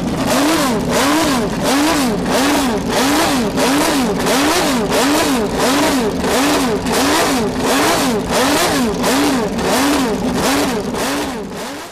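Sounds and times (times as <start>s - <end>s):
engine revving up and down: 0.0s - 11.9s.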